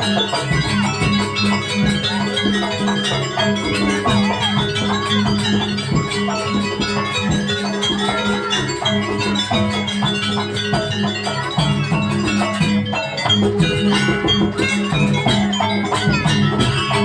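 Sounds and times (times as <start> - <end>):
continuous drumming: 0.0 - 17.0.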